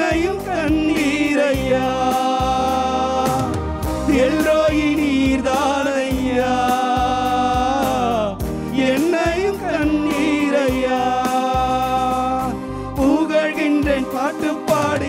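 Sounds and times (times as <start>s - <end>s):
instrumental backing with steady beat: 0.0s - 15.0s
man singing into a microphone: 0.0s - 15.0s.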